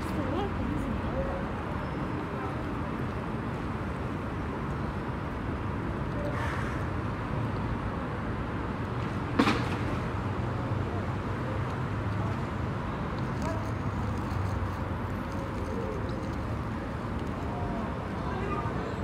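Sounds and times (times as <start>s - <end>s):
low traffic rumble: 0.0s - 19.0s.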